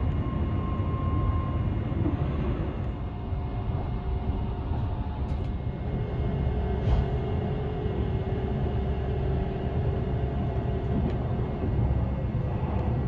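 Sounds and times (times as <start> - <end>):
train wheels rumbling on rail: 1.0 - 13.0.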